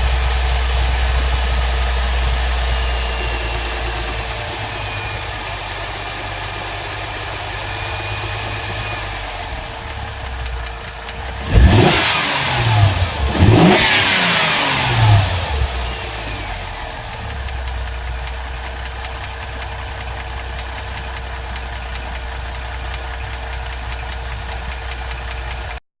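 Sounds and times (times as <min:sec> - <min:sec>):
car engine idling with whine: 0:00.0 - 0:25.8
car engine revving: 0:00.0 - 0:25.8.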